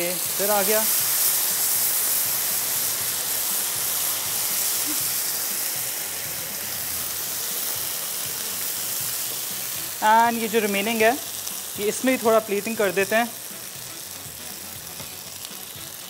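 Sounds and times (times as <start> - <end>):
platter sizzling: 0.0 - 16.0.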